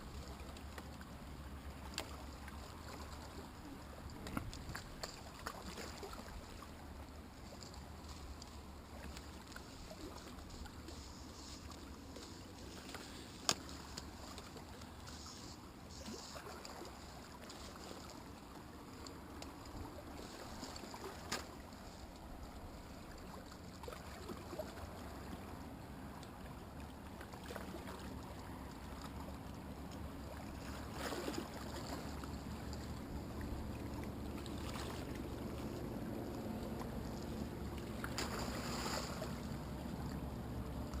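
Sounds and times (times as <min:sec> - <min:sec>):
water noise: 0:00.0 - 0:41.0.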